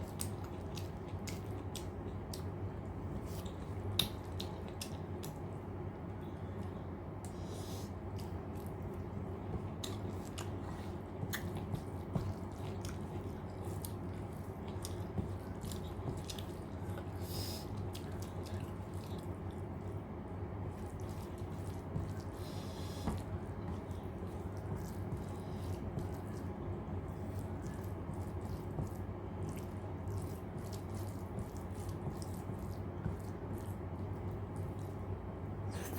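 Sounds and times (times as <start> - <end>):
person chewing: 0.0 - 5.5, 8.0 - 19.9, 20.6 - 35.1
wet squishing of food: 0.0 - 35.7
steady low hum: 0.0 - 35.9.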